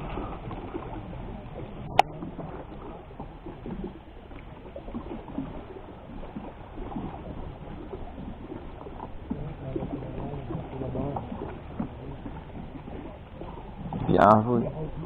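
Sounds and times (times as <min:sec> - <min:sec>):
water lapping and gurgling: 0:00.0 - 0:15.0.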